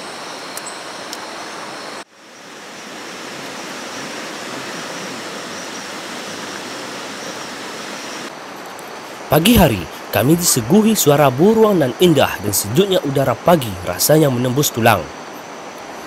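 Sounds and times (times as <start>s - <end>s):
rushing water: 1.1s - 16.0s.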